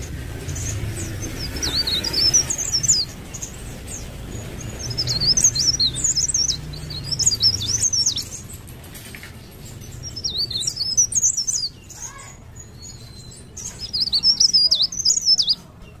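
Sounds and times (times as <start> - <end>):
leaf warbler twittering song: 0.0 - 16.0.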